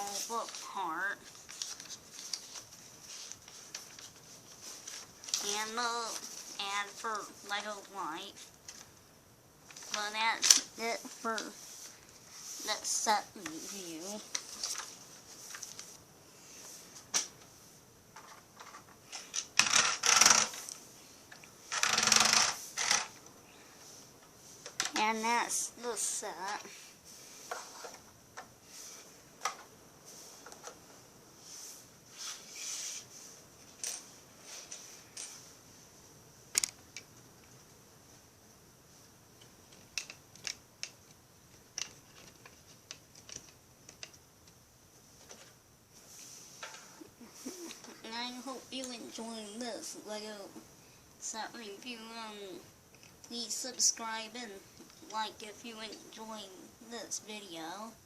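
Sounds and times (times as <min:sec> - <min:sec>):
faint steady high hiss: 0:00.0 - 0:58.0.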